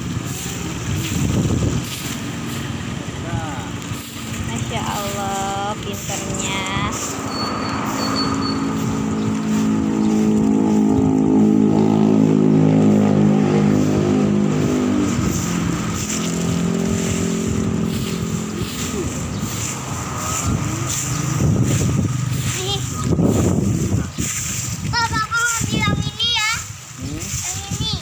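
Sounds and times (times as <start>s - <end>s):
fainter vehicle passing: 0.0s - 24.6s
vehicle driving past: 0.0s - 24.6s.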